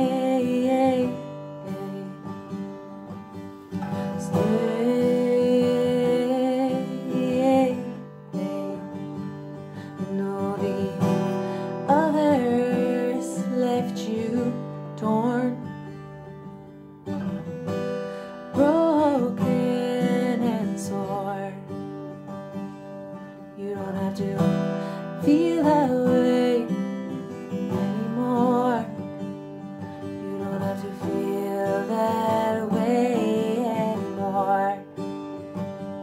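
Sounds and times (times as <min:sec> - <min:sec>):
acoustic guitar chords: 0:00.0 - 0:36.0.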